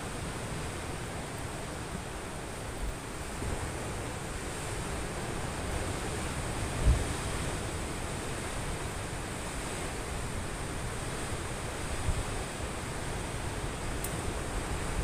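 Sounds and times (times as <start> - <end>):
sea surf: 0.0 - 15.0
wind rumbling on microphone: 0.0 - 15.0.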